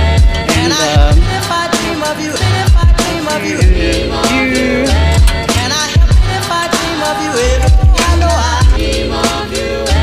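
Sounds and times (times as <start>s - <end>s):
pop music with sung vocals: 0.0s - 10.0s.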